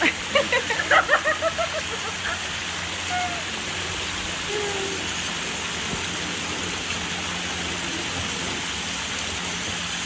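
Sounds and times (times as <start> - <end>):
water jets spraying on paving: 0.0 - 10.0.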